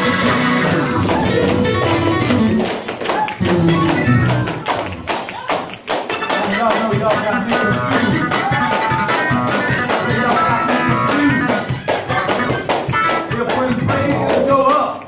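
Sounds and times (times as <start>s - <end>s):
tambourine shaken and struck: 0.0s - 15.0s
up-tempo church praise music: 0.0s - 15.0s.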